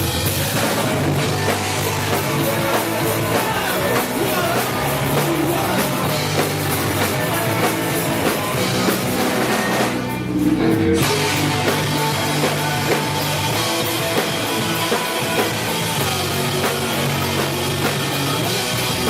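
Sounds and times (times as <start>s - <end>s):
driving drum kit: 0.0s - 19.0s
rock band playing live: 0.0s - 19.0s.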